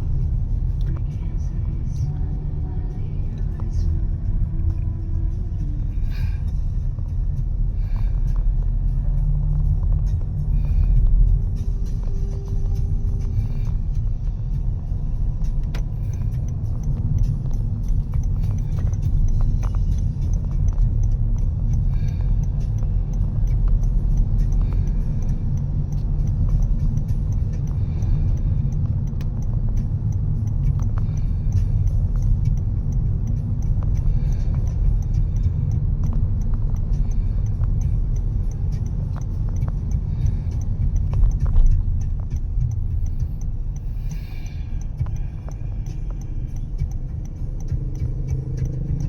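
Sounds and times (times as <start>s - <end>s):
low outdoor rumble: 0.0s - 49.0s.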